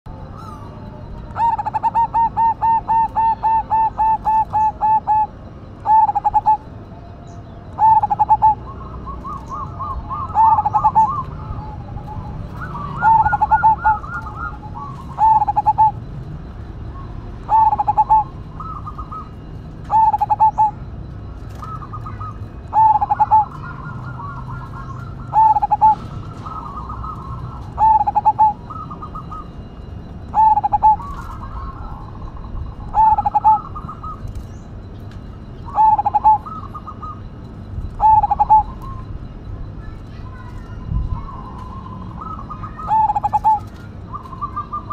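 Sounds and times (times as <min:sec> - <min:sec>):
dove cooing: 0:00.1 - 0:44.9
higher-pitched bird calls: 0:00.1 - 0:44.9.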